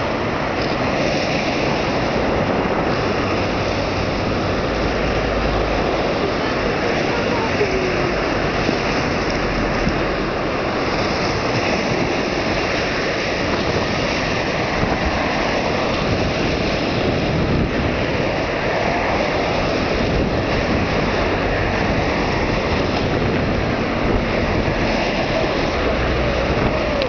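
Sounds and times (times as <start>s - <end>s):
surf breaking against sea wall: 0.0s - 27.0s
wind on microphone: 0.0s - 27.0s.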